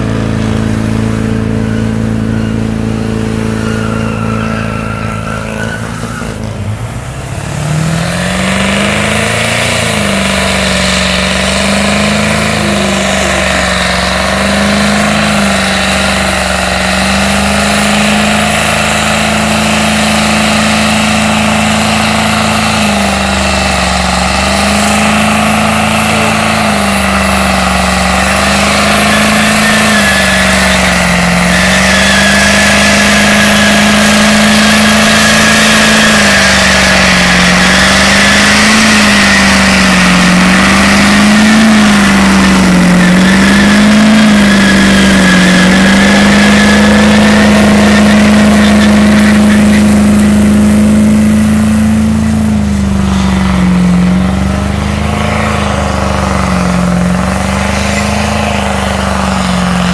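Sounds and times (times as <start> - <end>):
pickup engine revving high: 0.0 - 59.9
tyre squeal: 0.0 - 59.9.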